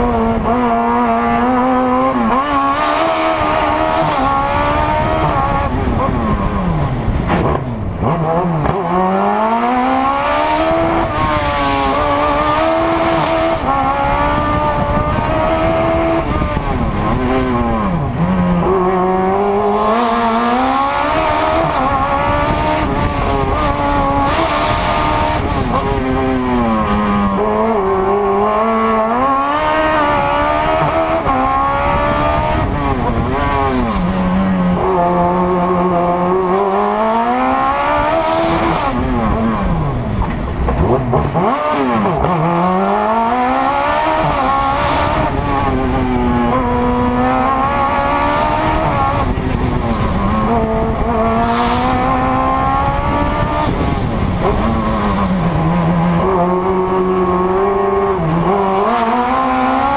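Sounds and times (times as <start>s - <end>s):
race car engine revving hard: 0.0s - 59.9s.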